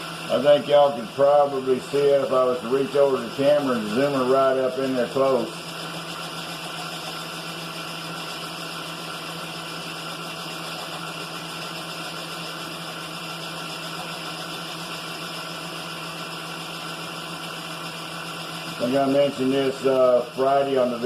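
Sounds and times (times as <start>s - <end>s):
milling machine motor hum: 0.0s - 21.0s.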